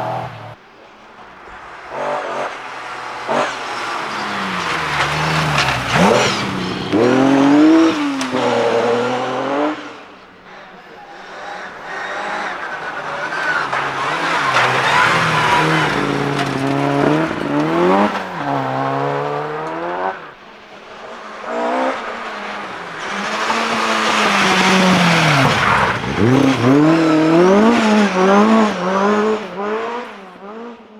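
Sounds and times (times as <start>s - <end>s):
rally car engine revving: 0.0s - 30.9s.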